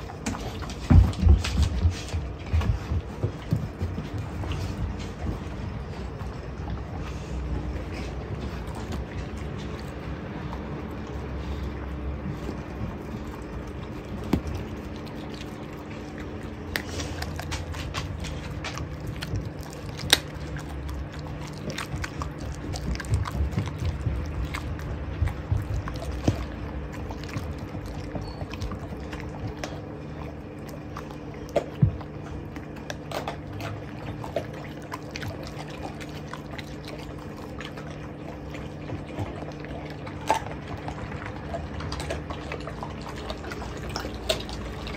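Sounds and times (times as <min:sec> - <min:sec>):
puppy chewing bone: 0:00.0 - 0:44.9.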